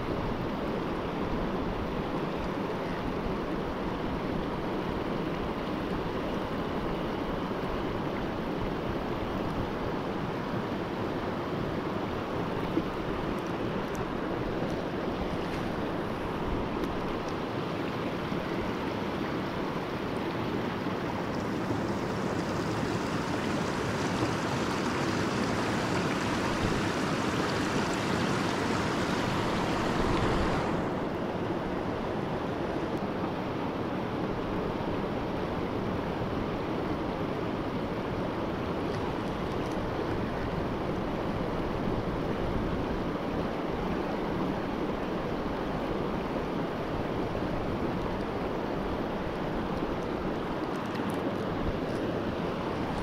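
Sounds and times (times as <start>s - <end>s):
river rapids rushing: 0.6s - 53.0s.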